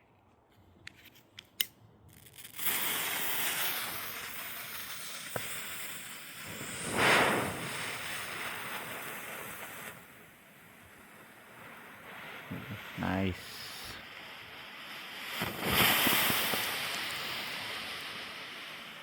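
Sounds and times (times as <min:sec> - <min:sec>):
smoke firework hissing: 0:02.1 - 0:19.0.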